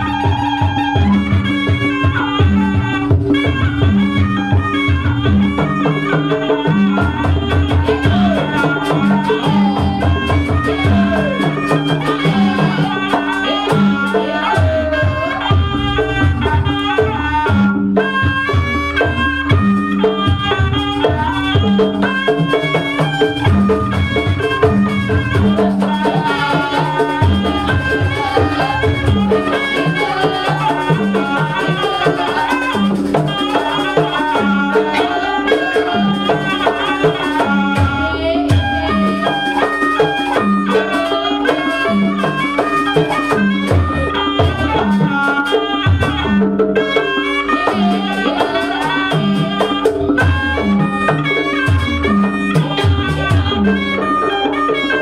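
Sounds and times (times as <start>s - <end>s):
drums and gongs: 0.0s - 55.0s
reedy wind instrument melody: 0.0s - 55.0s.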